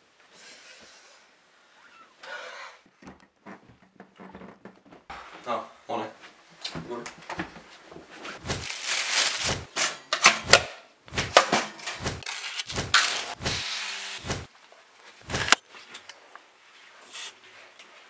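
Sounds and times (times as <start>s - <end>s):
household handling noises: 2.8s - 18.0s.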